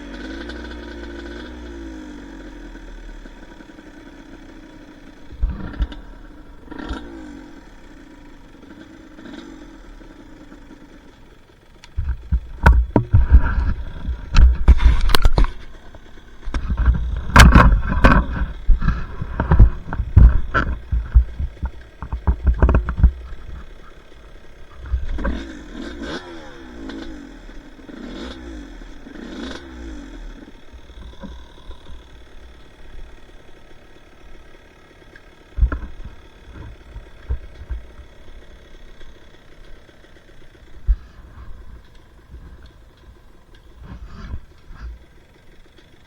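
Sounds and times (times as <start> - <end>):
dirt bike engine running: 0.0 - 46.0.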